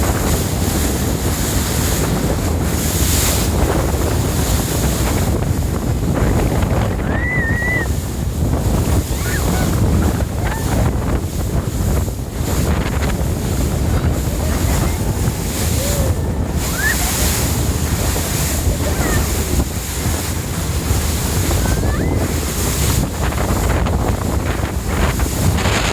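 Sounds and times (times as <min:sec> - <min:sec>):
boat moving through sea: 0:00.0 - 0:25.9
wind buffeting microphone: 0:00.0 - 0:25.9.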